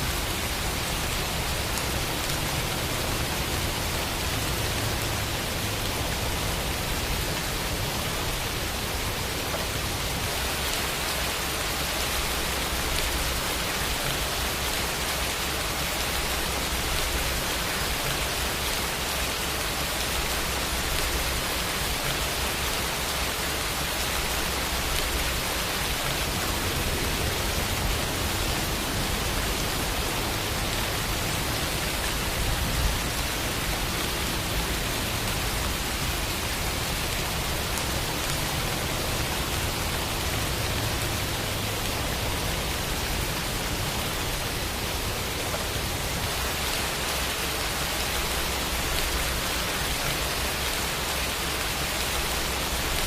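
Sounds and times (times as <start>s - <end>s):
rain drop patter: 0.0s - 53.0s
steady rain hiss: 0.0s - 53.0s.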